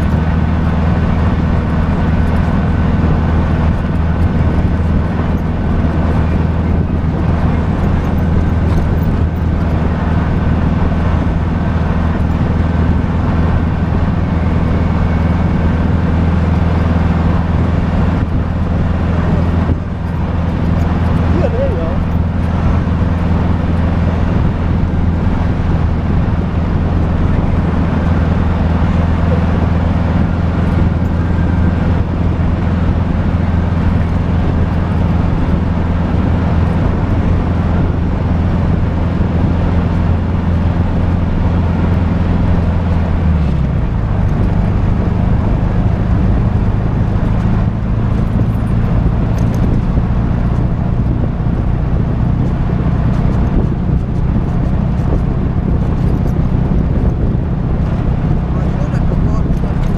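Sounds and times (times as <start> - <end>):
steady rushing noise: 0.0 - 59.9
trike engine running: 0.0 - 59.9.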